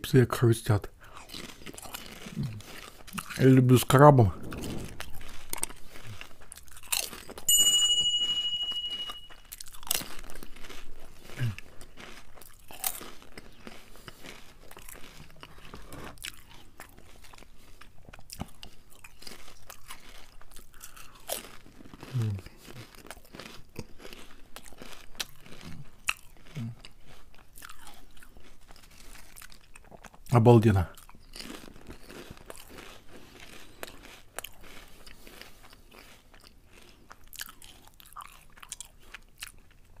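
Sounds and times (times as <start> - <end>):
potato chips crunching: 1.0 - 7.5, 9.3 - 40.0.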